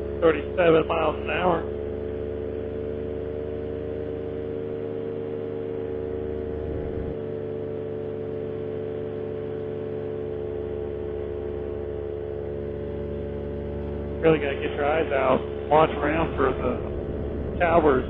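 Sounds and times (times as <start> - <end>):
paramotor engine droning: 0.0 - 18.0.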